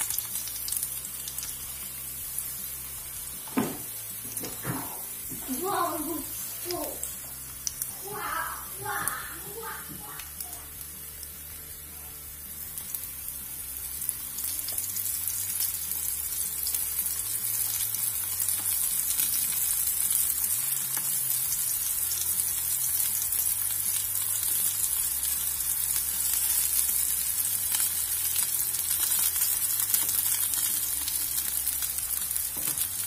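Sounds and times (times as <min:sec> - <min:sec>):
vegetables frying in hot oil: 0:00.0 - 0:33.0.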